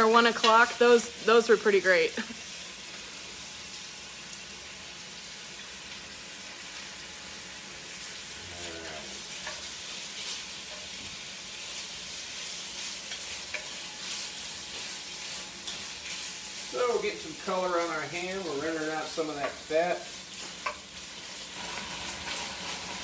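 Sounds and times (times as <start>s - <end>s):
ham sizzling in a pan: 0.0s - 23.0s.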